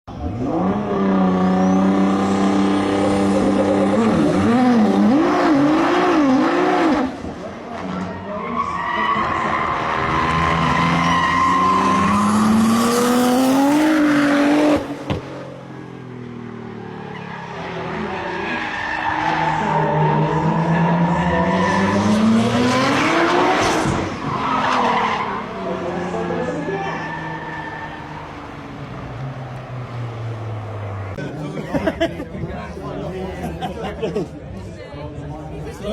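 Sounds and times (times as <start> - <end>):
car engine revving: 0.1 - 31.2.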